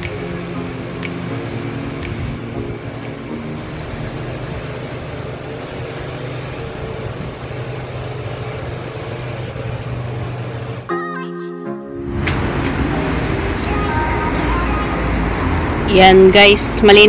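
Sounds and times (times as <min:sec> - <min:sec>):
ride-on lawn mower engine: 0:00.0 - 0:10.9, 0:12.1 - 0:17.0.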